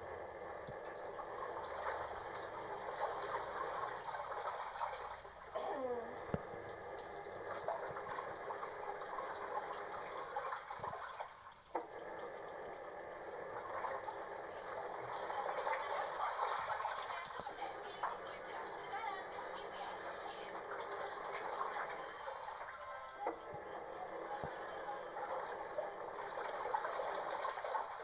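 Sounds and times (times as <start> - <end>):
water gushing: 0.0 - 28.0.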